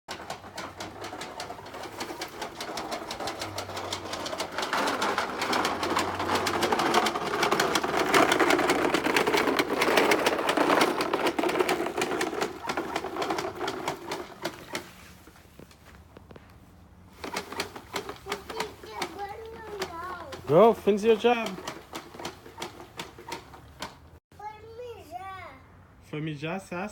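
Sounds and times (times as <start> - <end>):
push mower rattling and clicking: 0.1 - 15.3, 17.1 - 24.2.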